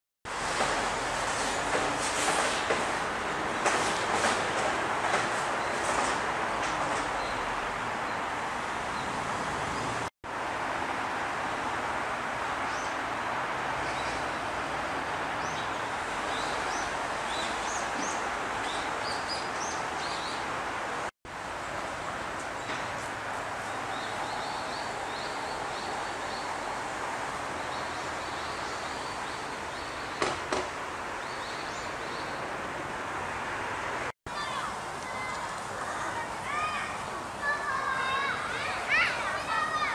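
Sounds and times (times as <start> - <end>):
steady rushing background noise: 0.3 - 39.9.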